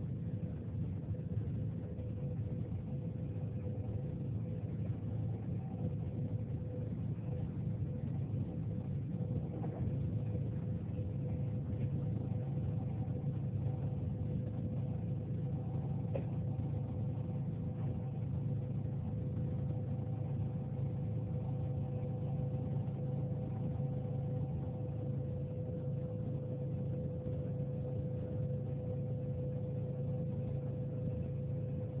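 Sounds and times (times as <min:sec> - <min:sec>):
jet engine rumble in cabin: 0:00.0 - 0:32.0.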